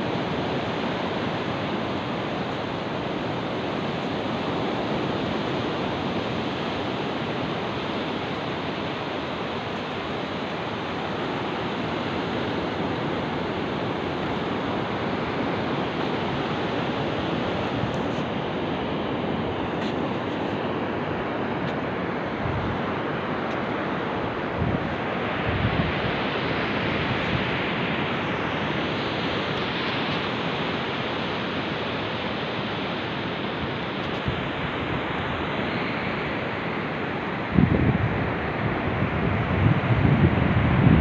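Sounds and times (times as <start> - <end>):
sea surf breaking on beach: 0.0 - 41.0.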